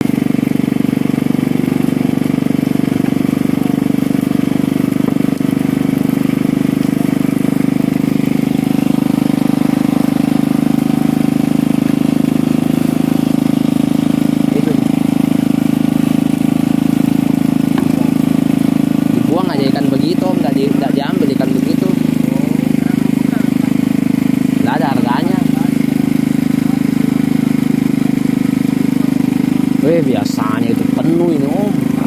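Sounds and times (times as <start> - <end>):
small engine idling: 0.0 - 32.0.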